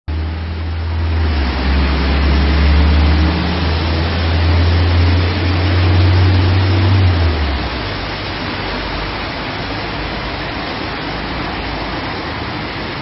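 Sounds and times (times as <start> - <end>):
deep constant rumble: 0.1 - 13.0
torrential rain pouring: 0.1 - 13.0.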